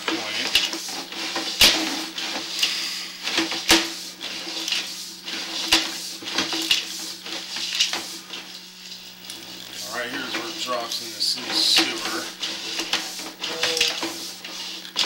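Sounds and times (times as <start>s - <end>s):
cable and reel knocking: 0.0s - 15.0s
steady low hum: 0.0s - 15.0s.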